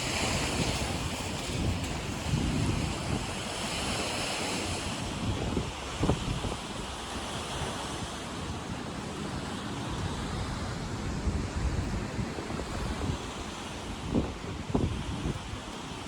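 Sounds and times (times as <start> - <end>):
waves on a lake: 0.0 - 16.0
wind buffeting microphone: 0.0 - 16.0.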